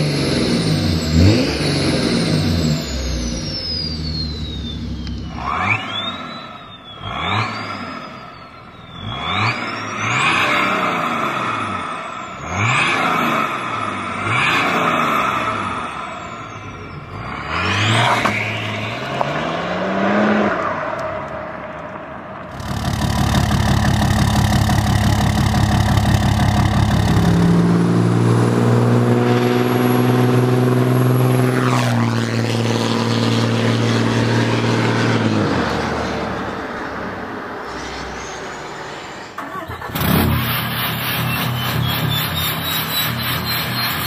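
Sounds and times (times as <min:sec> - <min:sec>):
car engine revving: 0:00.0 - 0:44.0
diesel pickup accelerating: 0:00.0 - 0:44.0.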